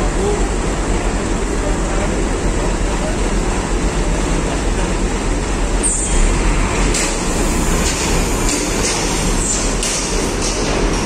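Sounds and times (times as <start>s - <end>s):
diesel engines din: 0.0s - 11.0s.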